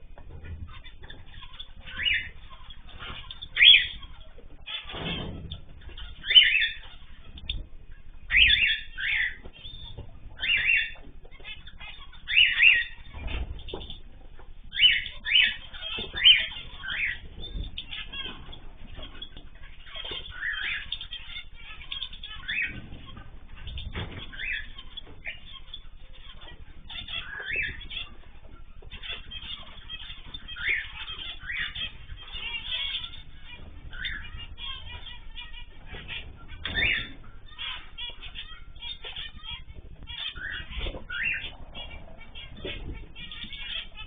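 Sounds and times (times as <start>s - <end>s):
birds chirping: 0.0s - 44.0s
wings fluttering: 0.0s - 44.0s.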